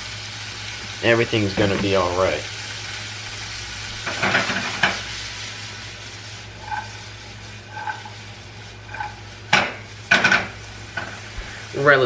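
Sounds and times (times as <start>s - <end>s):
beans sizzling in a pan: 0.0s - 12.0s.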